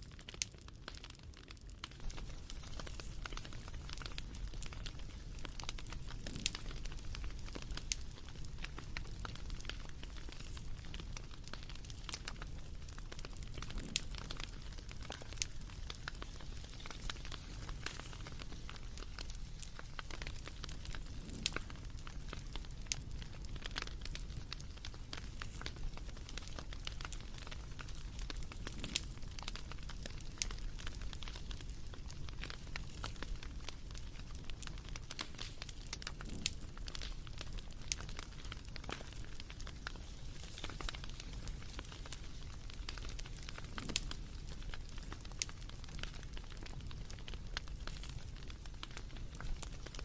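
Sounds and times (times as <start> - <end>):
sharp pops and snaps: 0.0 - 50.0
wood fire crackling: 0.0 - 50.0.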